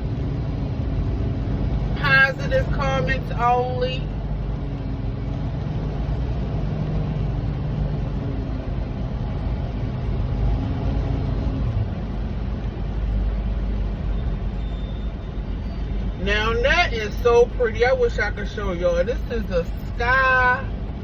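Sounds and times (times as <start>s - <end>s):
road noise: 0.0s - 21.0s
truck engine rumble: 0.0s - 21.0s.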